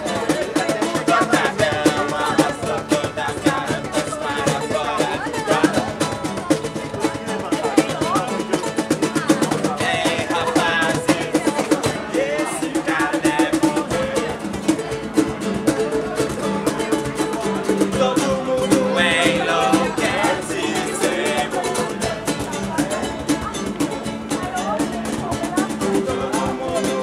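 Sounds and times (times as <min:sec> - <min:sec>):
man singing: 0:00.0 - 0:06.5, 0:07.1 - 0:23.5, 0:25.6 - 0:27.0
acoustic guitars strummed: 0:00.0 - 0:27.0.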